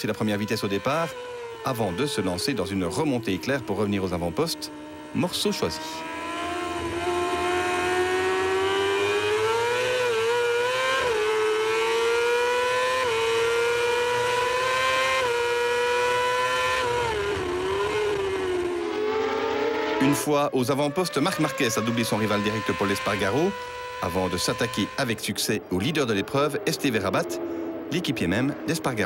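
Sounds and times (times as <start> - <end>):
racing motorcycle engine: 0.0 - 29.0.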